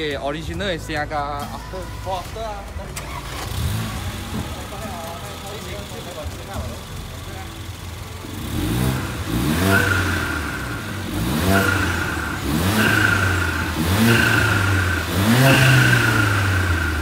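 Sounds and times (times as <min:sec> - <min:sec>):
car engine revving: 0:01.9 - 0:17.0.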